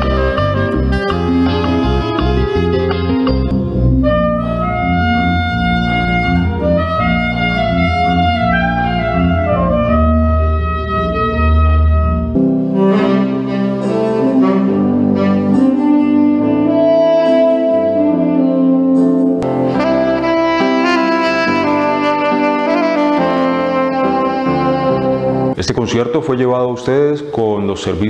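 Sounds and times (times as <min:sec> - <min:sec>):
saxophone playing slow melody: 0:00.0 - 0:25.6
recorded accompaniment with deep bass: 0:00.0 - 0:28.0.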